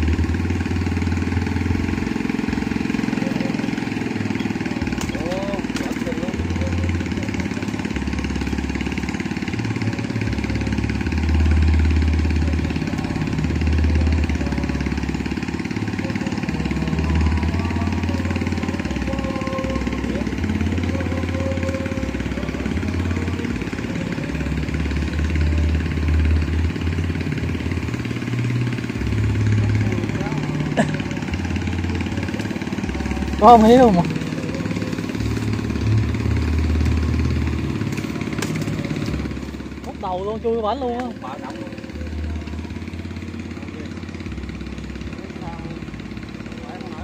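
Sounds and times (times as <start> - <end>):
engine-driven water pump droning: 0.0 - 47.0.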